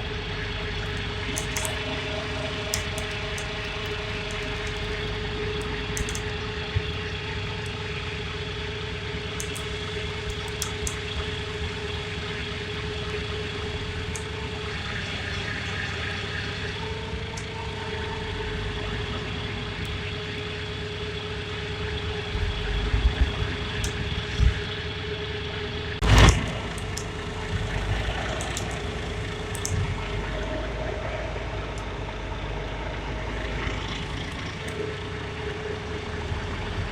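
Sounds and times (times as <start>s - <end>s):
constant whine: 0.0s - 36.9s
heavy truck engine running: 0.0s - 36.9s.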